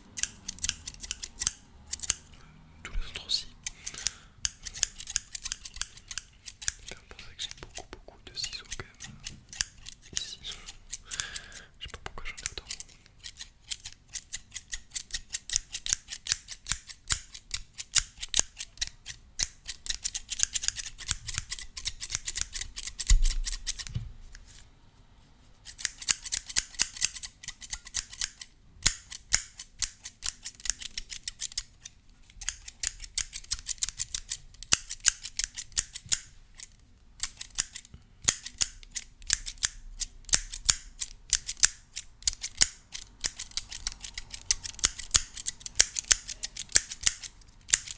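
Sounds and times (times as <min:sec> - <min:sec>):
scissors snipping: 0:00.0 - 0:02.4, 0:03.1 - 0:24.4, 0:25.6 - 0:47.9.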